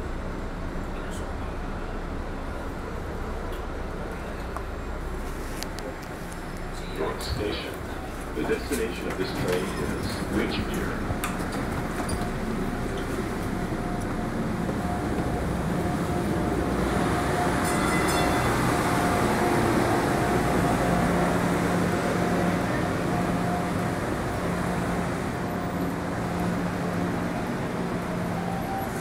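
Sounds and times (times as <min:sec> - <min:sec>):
light-rail car wheels rumbling: 0:00.0 - 0:29.0.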